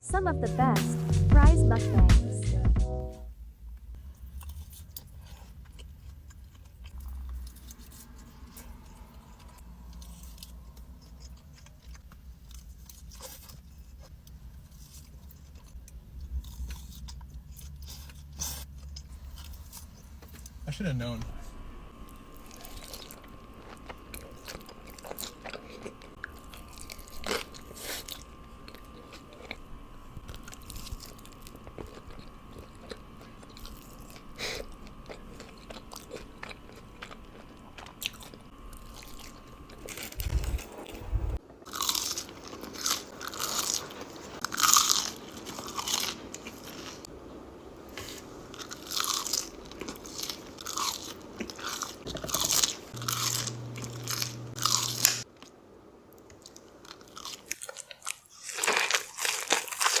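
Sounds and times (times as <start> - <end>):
french fries crunching: 4.0 - 21.2, 22.1 - 47.1, 47.8 - 55.6, 56.2 - 60.0.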